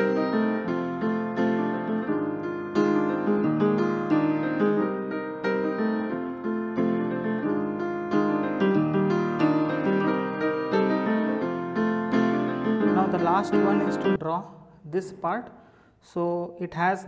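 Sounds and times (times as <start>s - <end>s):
gentle piano music: 0.0s - 14.2s.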